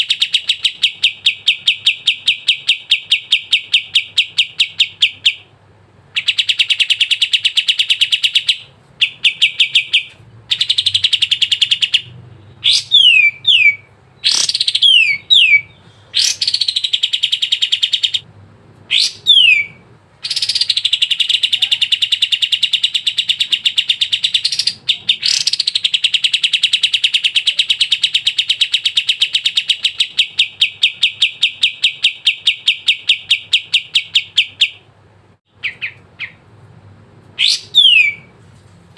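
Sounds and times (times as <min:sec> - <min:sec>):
songbird chipping song: 0:00.0 - 0:05.5, 0:06.2 - 0:18.2, 0:18.9 - 0:34.9, 0:35.5 - 0:36.4, 0:37.4 - 0:38.3.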